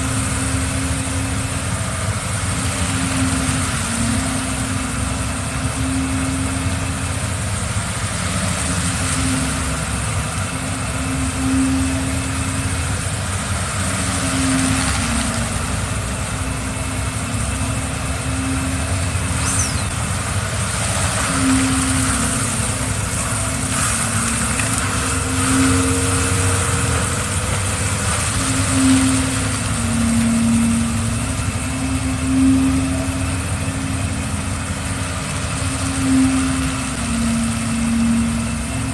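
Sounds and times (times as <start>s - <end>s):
engine running with low hum: 0.0s - 38.9s.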